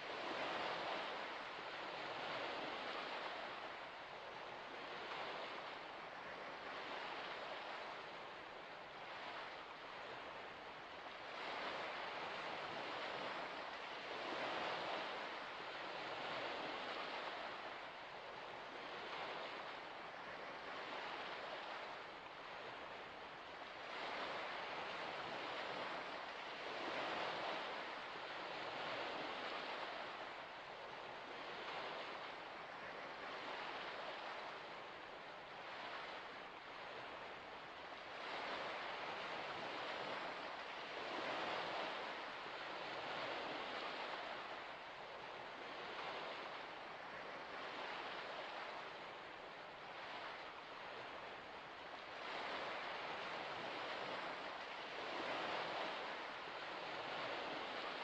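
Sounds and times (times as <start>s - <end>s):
gentle waves lapping: 0.0s - 58.0s.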